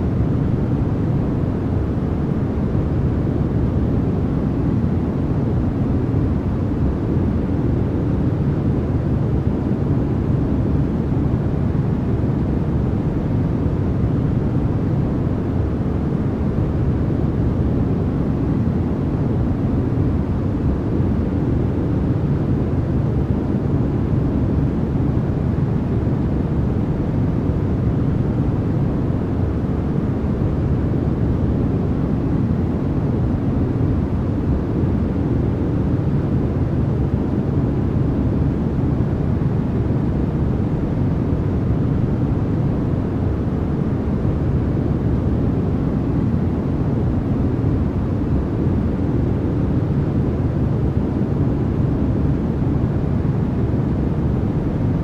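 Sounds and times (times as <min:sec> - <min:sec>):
deep rumbling white noise: 0:00.0 - 0:55.0.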